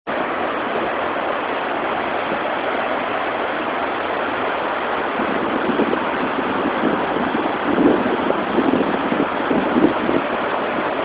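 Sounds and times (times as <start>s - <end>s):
white water rushing into canal: 0.1s - 11.0s.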